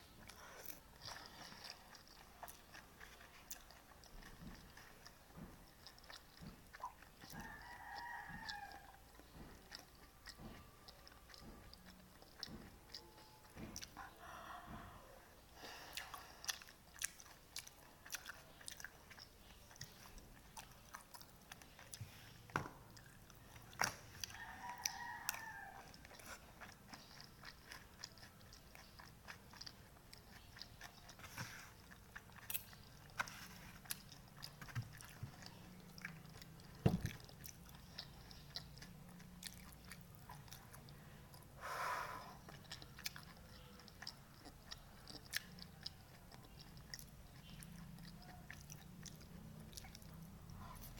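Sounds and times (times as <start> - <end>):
chewing and biting noodles: 0.0 - 14.9, 15.7 - 50.9.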